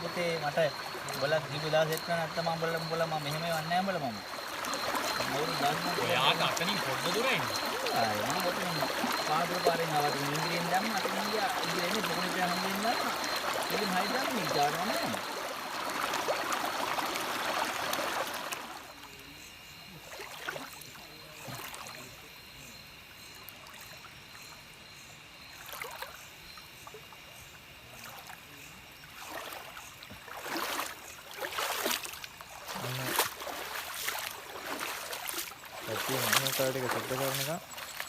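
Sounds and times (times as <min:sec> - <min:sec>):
river water splashing: 0:00.0 - 0:22.3, 0:25.5 - 0:26.2, 0:28.0 - 0:38.0
high insect drone: 0:00.0 - 0:38.0.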